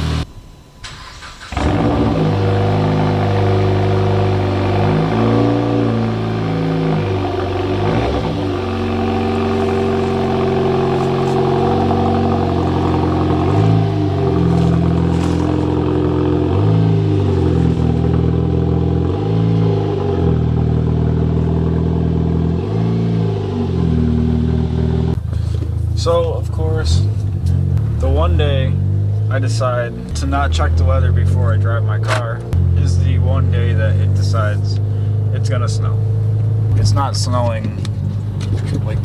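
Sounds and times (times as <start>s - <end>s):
turbocharged car engine: 0.0s - 39.0s.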